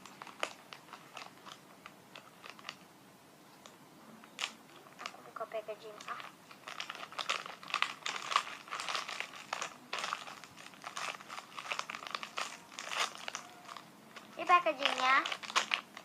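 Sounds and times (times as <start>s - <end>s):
plastic packaging crinkling: 0.0s - 2.8s, 4.3s - 16.0s.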